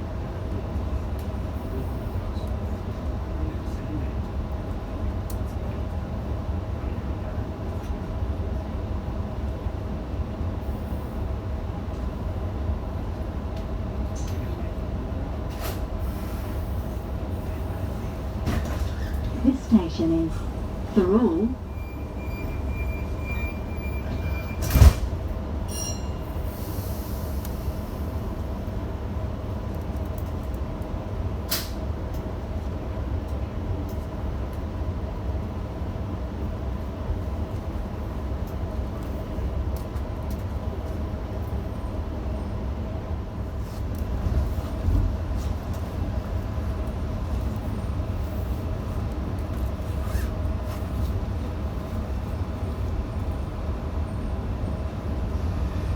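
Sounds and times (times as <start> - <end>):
train carriage rumble: 0.0 - 55.9.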